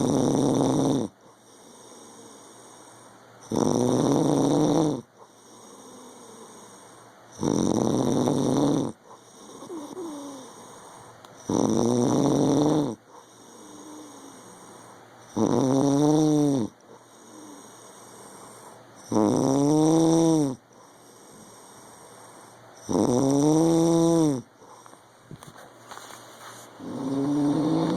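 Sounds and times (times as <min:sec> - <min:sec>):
man snoring: 0:00.0 - 0:24.5, 0:26.8 - 0:27.9
quiet breaths: 0:00.0 - 0:27.9.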